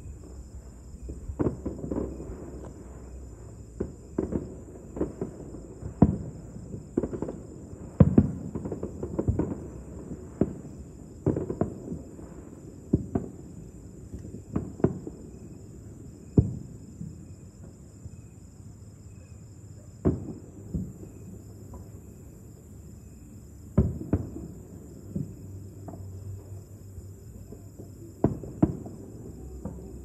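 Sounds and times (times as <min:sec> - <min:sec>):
distant fireworks bangs: 0:00.0 - 0:17.8, 0:20.0 - 0:22.4, 0:23.6 - 0:30.0
crickets chirring: 0:00.0 - 0:30.0.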